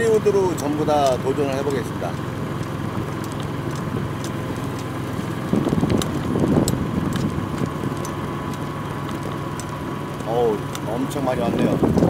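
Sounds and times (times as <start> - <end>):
golf cart motor hum: 0.0 - 12.0
rattling clicks: 0.5 - 12.0.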